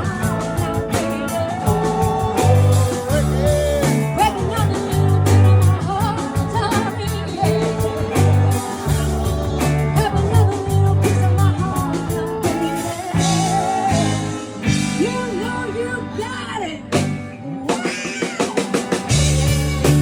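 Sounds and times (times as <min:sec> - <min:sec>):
rock music with singer: 0:00.0 - 0:20.0.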